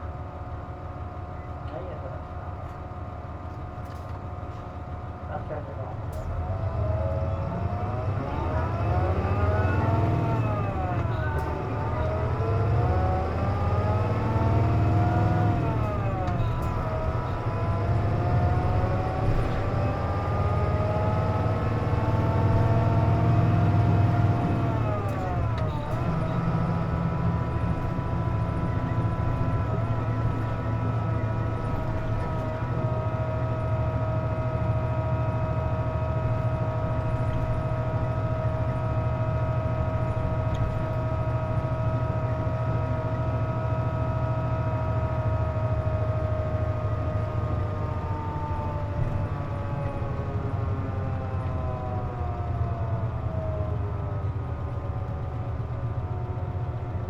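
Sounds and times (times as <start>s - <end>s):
low diesel engine rumble: 0.0s - 57.0s.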